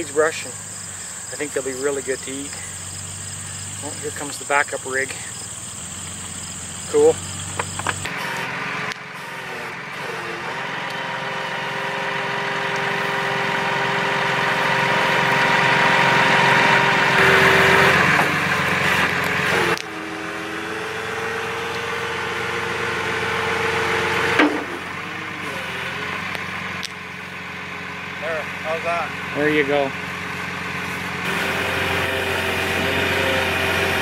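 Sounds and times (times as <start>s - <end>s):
truck engine hum with whine: 0.0s - 34.0s.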